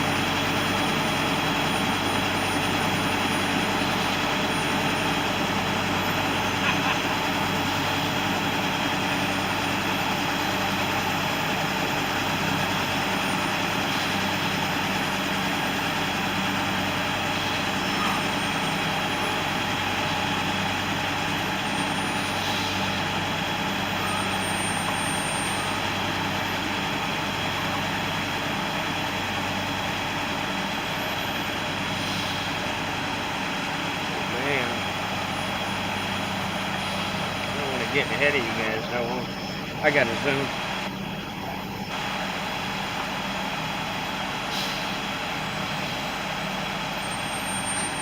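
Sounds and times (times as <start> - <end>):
diesel engine revs oscillating: 0.0 - 48.0.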